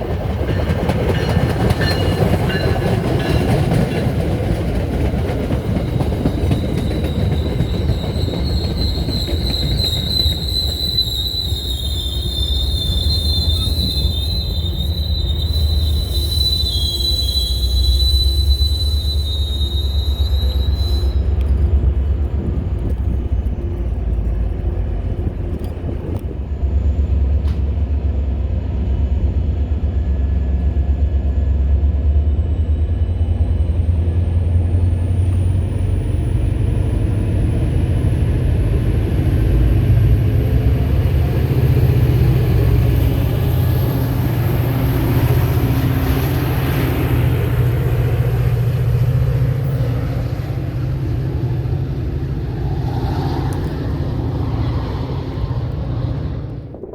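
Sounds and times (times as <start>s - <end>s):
diesel locomotive rumbling: 0.0s - 56.9s.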